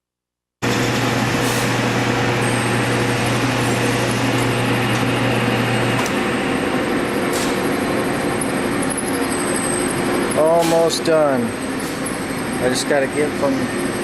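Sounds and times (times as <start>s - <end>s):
metal lathe running: 0.6s - 14.0s.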